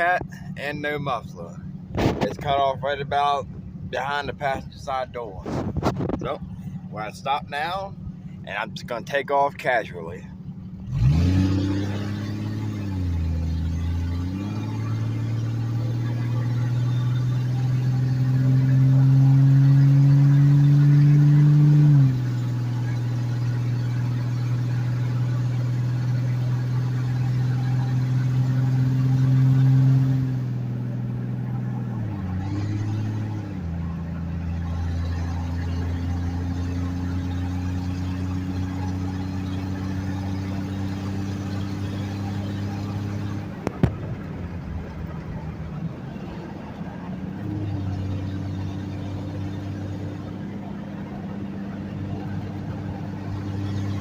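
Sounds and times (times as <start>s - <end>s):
car exhaust accelerating: 0.0s - 54.0s.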